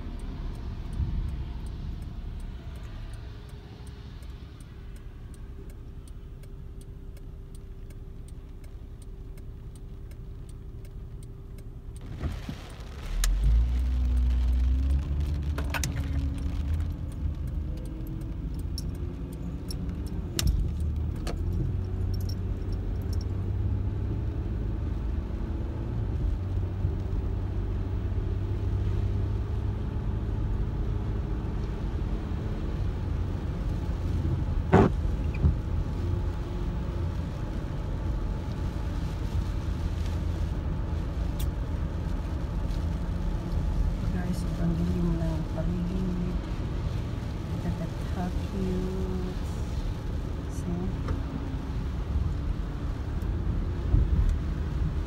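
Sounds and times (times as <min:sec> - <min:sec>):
car engine humming and accelerating: 0:00.0 - 0:55.0
low road rumble: 0:00.0 - 0:55.0.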